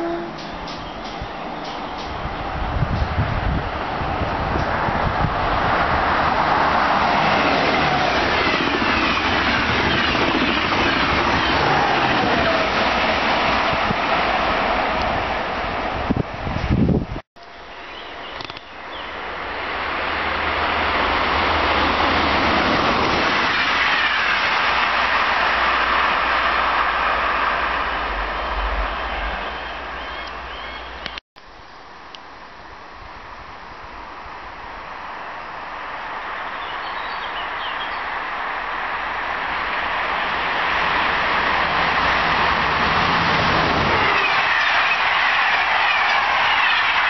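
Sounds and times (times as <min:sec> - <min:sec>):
train rushing past: 0:00.0 - 0:17.2, 0:17.8 - 0:31.1, 0:34.4 - 0:47.0.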